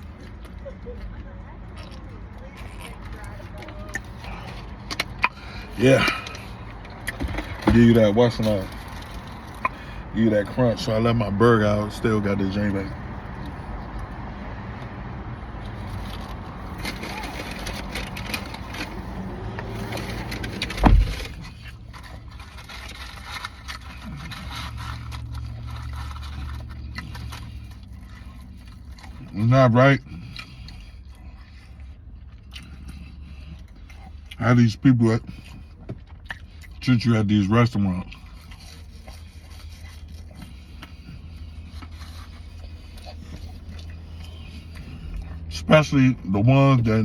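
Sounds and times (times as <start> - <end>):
crunchy chewing: 0.0 - 45.7.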